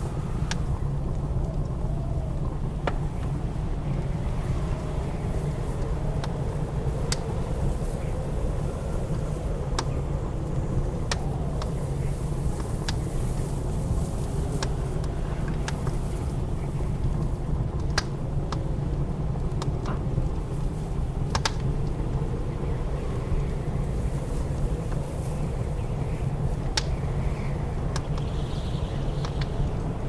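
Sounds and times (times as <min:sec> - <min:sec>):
howling blizzard wind: 0:00.0 - 0:30.0
wood fire crackling: 0:00.0 - 0:30.0.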